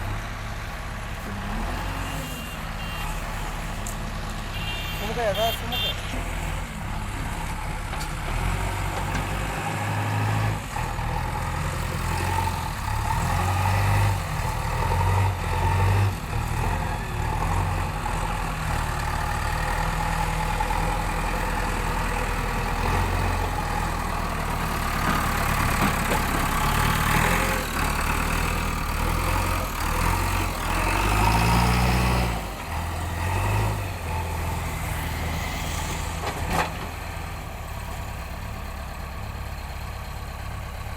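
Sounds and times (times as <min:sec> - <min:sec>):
diesel engine revving: 0:00.0 - 0:04.5, 0:05.1 - 0:40.9.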